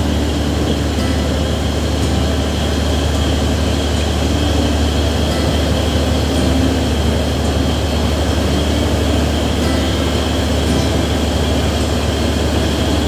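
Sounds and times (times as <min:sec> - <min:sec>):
boat engine droning: 0:00.0 - 0:13.0
faint high hum: 0:00.0 - 0:13.0.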